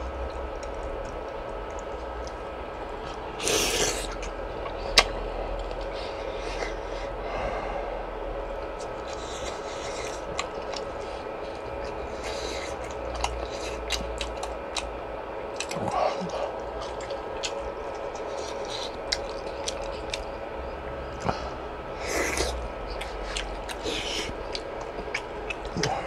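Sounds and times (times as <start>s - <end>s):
steady background hum: 0.0s - 26.0s
person chewing: 0.1s - 7.2s, 8.6s - 20.4s, 21.2s - 26.0s.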